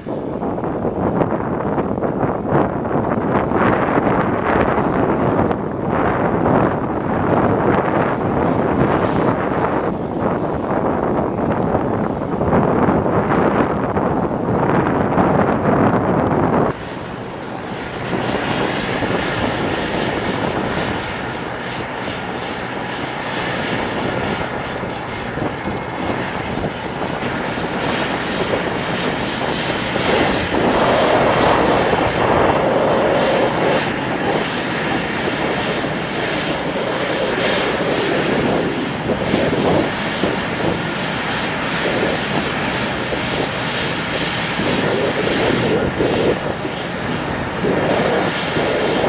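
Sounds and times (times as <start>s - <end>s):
helicopter turbine and rotor noise: 0.0s - 49.0s.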